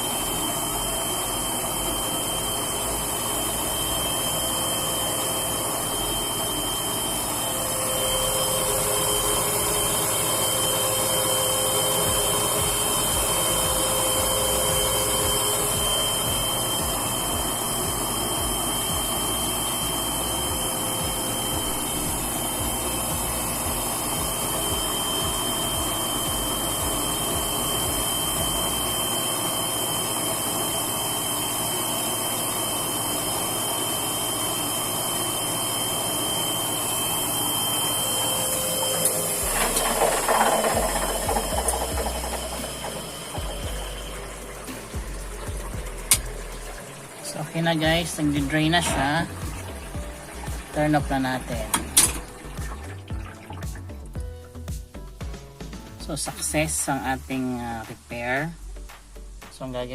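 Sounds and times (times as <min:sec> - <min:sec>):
washing machine spinning whir: 0:00.0 - 0:59.9.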